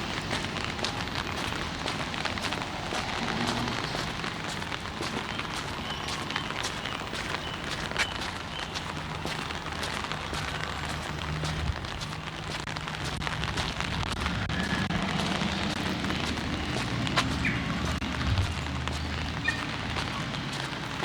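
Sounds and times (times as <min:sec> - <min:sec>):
rain pattering on umbrella: 0:00.0 - 0:21.0
road traffic hum: 0:00.0 - 0:21.0.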